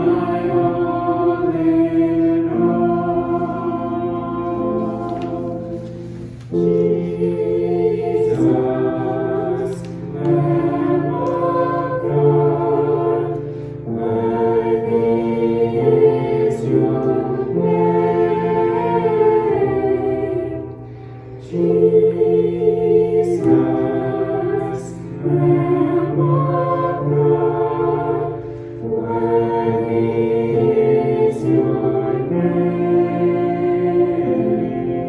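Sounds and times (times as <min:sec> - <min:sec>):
slow choral worship music: 0:00.0 - 0:35.0.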